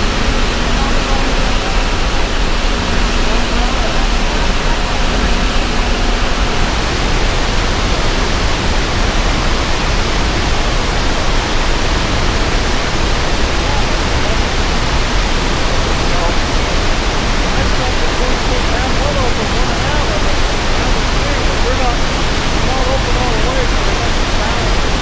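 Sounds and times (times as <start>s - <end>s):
deep rumble: 0.0s - 24.7s
rushing churning water: 0.0s - 25.0s.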